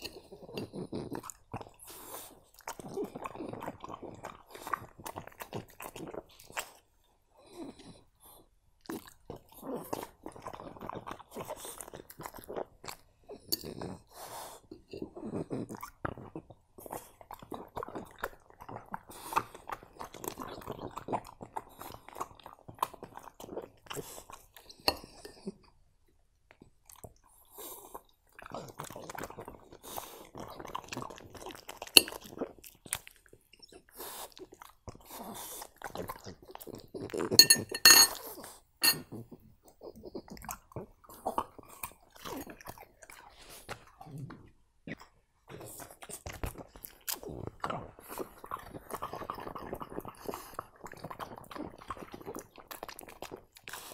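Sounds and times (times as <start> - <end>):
dog chewing and crunching food: 0.0 - 53.9.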